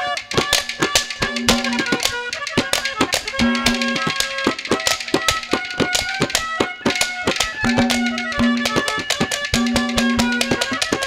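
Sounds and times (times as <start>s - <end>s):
hand drum fast rhythm: 0.0s - 11.0s
melody instrument holding notes: 0.0s - 11.0s.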